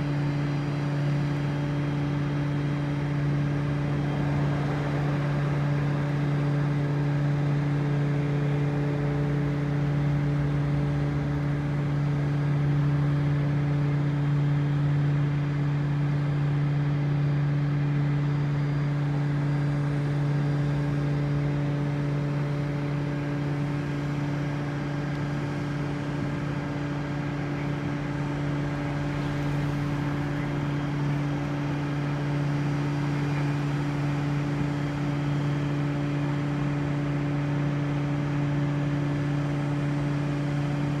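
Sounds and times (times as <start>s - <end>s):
truck engine and pump droning: 0.0s - 41.0s.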